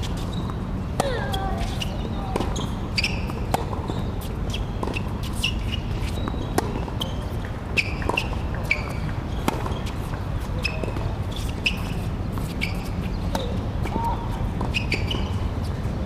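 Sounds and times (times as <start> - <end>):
shoes squeaking: 0.0 - 16.0
rackets hitting tennis ball: 0.9 - 15.4.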